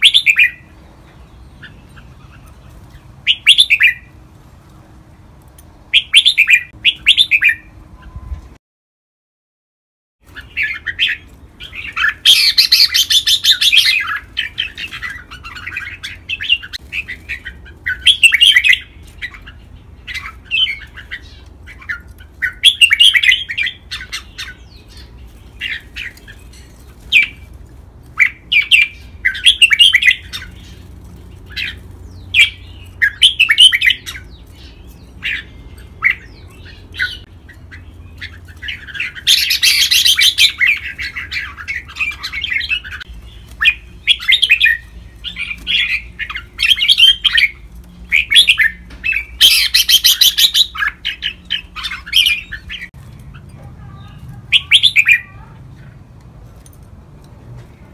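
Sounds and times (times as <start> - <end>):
bird song with chirps: 0.0 - 4.2, 5.9 - 8.6, 10.2 - 56.0.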